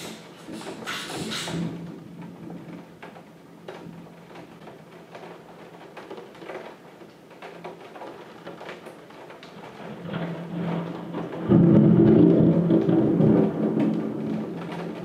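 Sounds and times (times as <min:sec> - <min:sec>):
raindrops tapping on window: 0:00.0 - 0:15.0.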